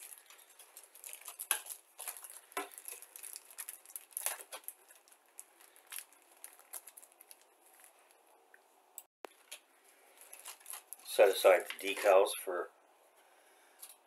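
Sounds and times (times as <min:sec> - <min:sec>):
plastic bags crinkling: 0:00.0 - 0:08.4, 0:09.3 - 0:12.3.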